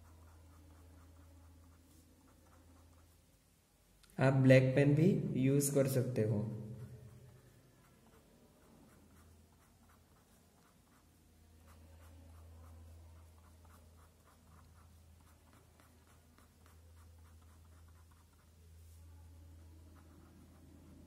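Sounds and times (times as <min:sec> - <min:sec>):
pen scratching on paper: 0:00.0 - 0:03.4, 0:06.5 - 0:21.0
low steady hum: 0:00.0 - 0:21.0.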